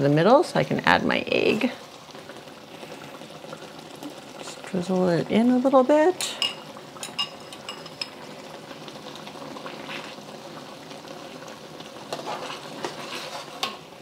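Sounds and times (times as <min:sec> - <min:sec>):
sauce bubbling and sizzling in pan: 0:00.0 - 0:14.0.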